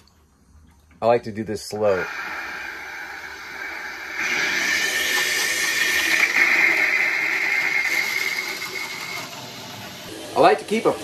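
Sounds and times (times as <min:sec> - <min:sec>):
water rushing through valve: 0:01.8 - 0:11.0.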